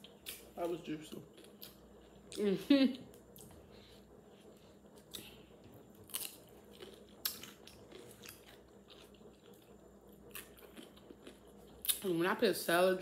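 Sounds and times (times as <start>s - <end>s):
person chewing crunchy food: 0.0s - 2.4s, 3.2s - 12.1s.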